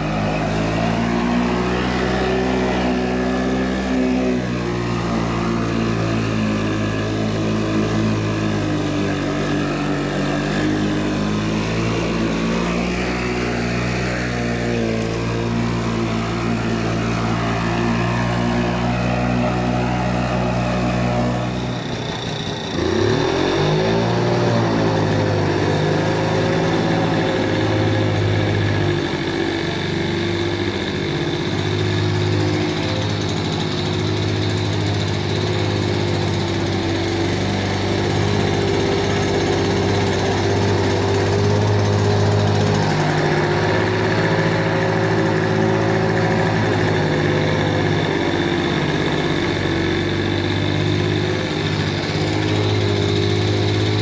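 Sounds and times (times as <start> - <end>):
lawnmower engine running: 0.0 - 54.0.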